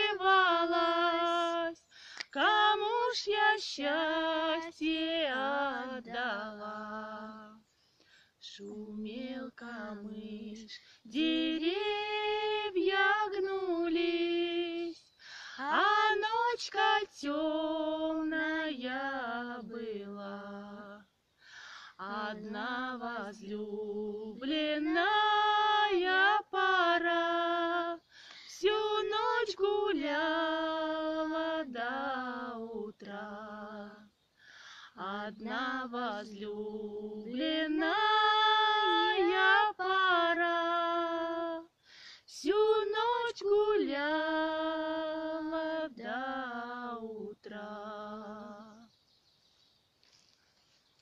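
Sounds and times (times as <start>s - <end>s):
woman singing unaccompanied: 0.0s - 7.7s, 8.4s - 21.1s, 21.9s - 34.2s, 34.9s - 49.0s.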